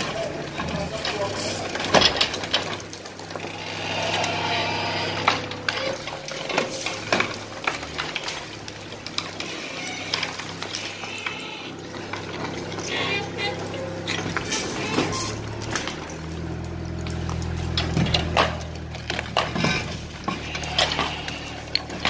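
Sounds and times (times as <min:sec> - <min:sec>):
rubble breaking and falling: 0:00.0 - 0:12.8, 0:13.6 - 0:22.0
excavator diesel engine running: 0:00.0 - 0:22.0.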